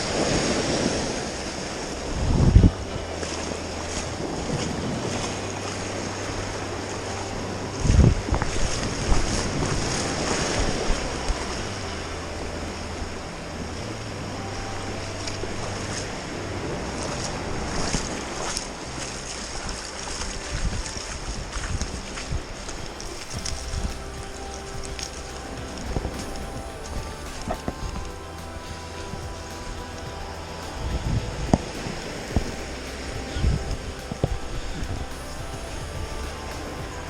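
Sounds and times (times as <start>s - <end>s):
sea waves washing: 0.0s - 37.0s.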